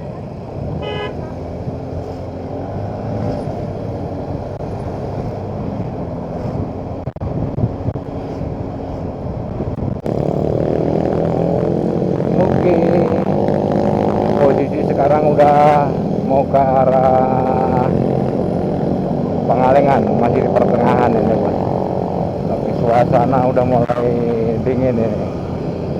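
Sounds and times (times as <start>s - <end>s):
motorcycle engine running: 0.0s - 25.9s
road and wind noise: 0.0s - 25.9s.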